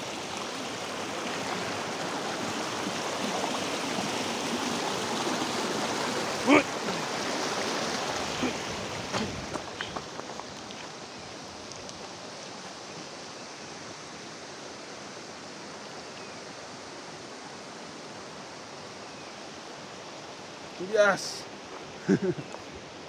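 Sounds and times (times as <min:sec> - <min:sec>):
stream water flowing: 0:00.0 - 0:23.0.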